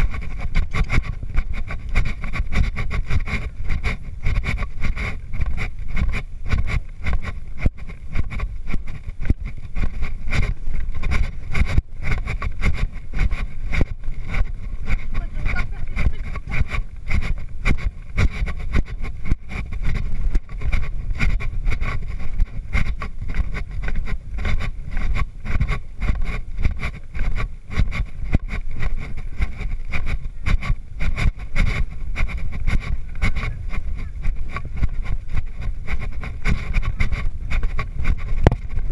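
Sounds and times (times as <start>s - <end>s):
hoofbeats on sand: 0.0s - 38.9s
wind buffeting microphone: 0.0s - 38.9s.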